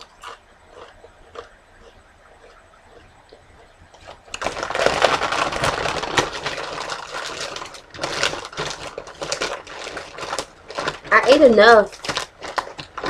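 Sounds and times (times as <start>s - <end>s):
tortilla chips crunching: 0.0s - 13.0s.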